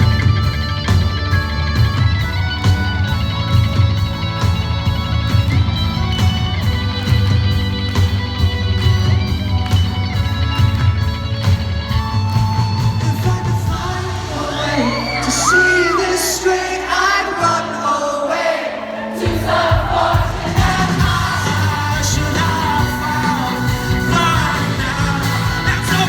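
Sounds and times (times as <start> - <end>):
steady drum beat: 0.0 - 14.4, 19.2 - 26.0
strummed electric guitar: 0.0 - 14.8, 19.8 - 26.0
heavy bass: 0.0 - 17.4, 19.3 - 26.0.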